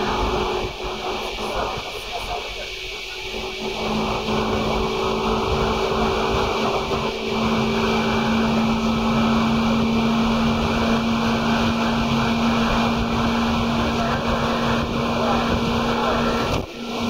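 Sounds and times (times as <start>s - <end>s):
traction motor hum: 0.0s - 17.0s
train running noise inside car: 0.0s - 17.0s.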